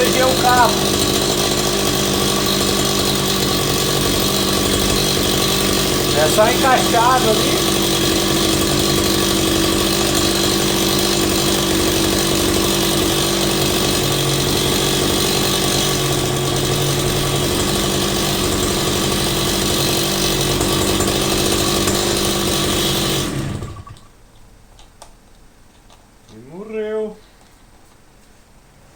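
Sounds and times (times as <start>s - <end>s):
brushcutter engine running: 0.0s - 24.1s.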